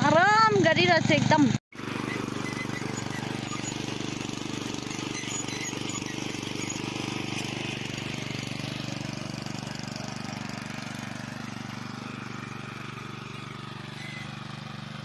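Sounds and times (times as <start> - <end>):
tiller engine chugging: 0.0 - 15.0
tines churning soil: 0.0 - 15.0.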